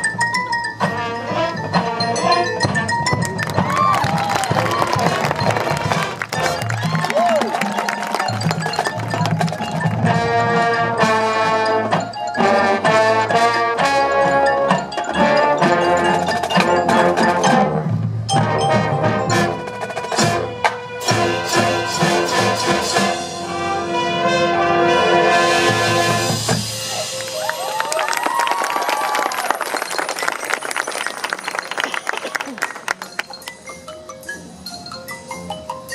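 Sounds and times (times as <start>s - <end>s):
marching band playing: 0.8s - 33.6s.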